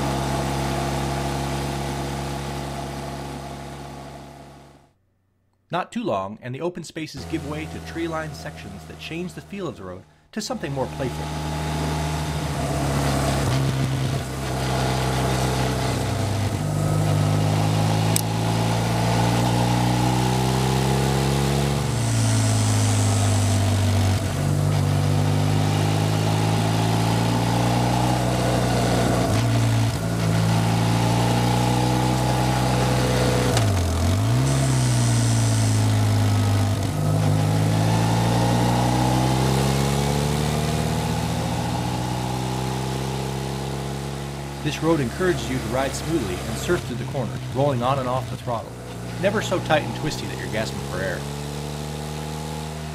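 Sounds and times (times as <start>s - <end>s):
motorcycle engine revving: 0.0s - 4.9s, 7.2s - 52.9s.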